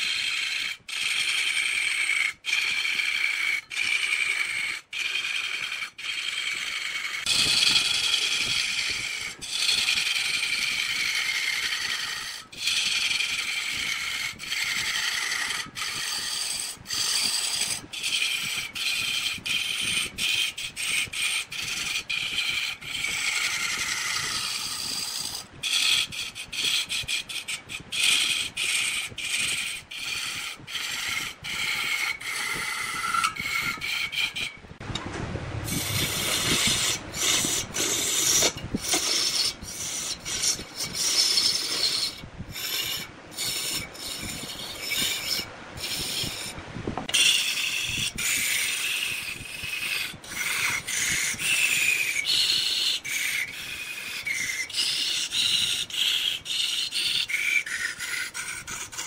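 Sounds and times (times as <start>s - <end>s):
wood lathe squealing whine: 0.0s - 35.0s, 35.7s - 59.0s
tool scraping wood: 0.0s - 35.1s, 35.7s - 59.0s.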